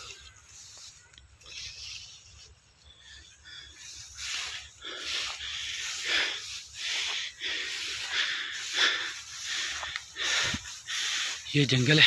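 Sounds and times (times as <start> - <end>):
dry grass swishing against legs: 0.0 - 12.0.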